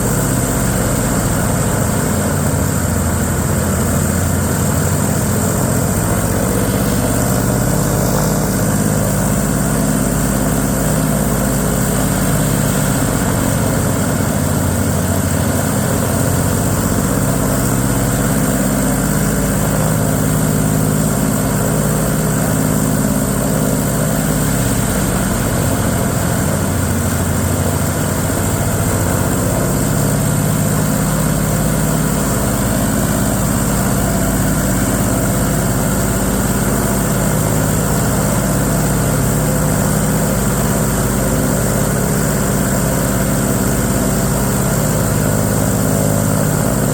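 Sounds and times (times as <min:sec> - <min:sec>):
radial aircraft engine running: 0:00.0 - 0:46.9.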